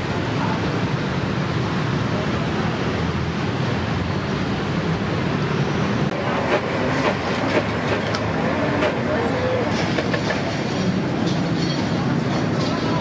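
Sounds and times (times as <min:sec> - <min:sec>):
busy outdoor market din: 0:00.0 - 0:13.0.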